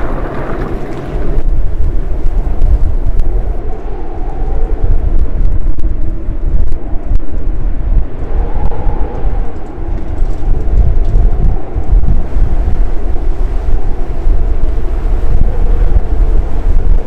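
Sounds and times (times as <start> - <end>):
blizzard wind gusting: 0.0 - 17.0.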